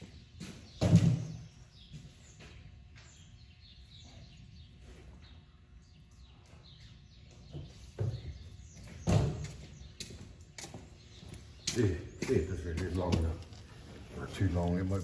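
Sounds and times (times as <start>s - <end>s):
birds chirping faintly: 0.0s - 15.0s
low background noise: 0.0s - 15.0s.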